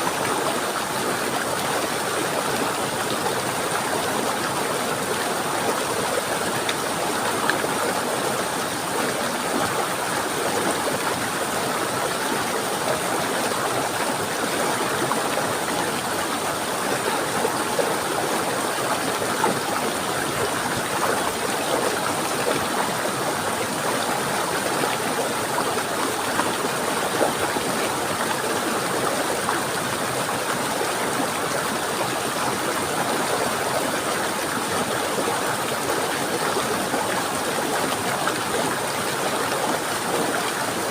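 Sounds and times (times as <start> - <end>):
stream rushing and splashing: 0.0 - 40.9.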